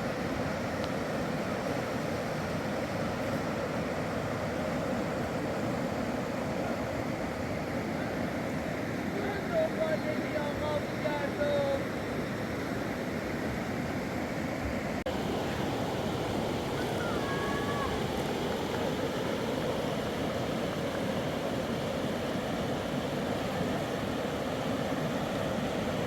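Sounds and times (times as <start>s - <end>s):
fast-flowing floodwater in river: 0.0s - 26.0s.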